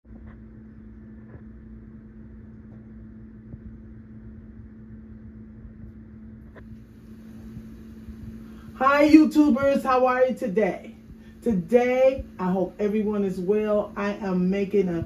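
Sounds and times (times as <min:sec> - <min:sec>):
faint rumble: 0:00.0 - 0:14.0
low appliance hum: 0:00.0 - 0:15.0.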